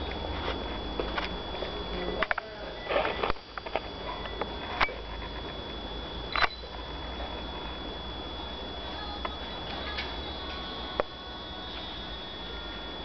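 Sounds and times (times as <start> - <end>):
faint high-pitched whine: 0.0 - 13.0
steady low hum: 0.0 - 13.0.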